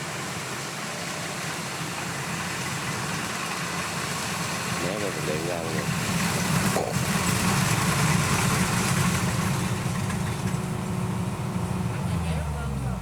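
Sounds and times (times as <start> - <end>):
combine harvester diesel drone: 0.0 - 13.0.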